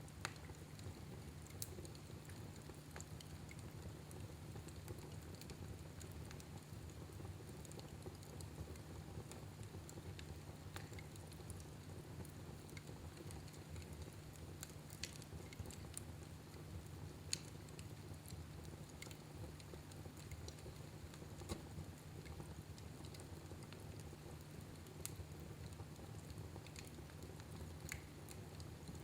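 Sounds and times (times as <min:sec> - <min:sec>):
fire crackling and popping: 0:00.1 - 0:29.0.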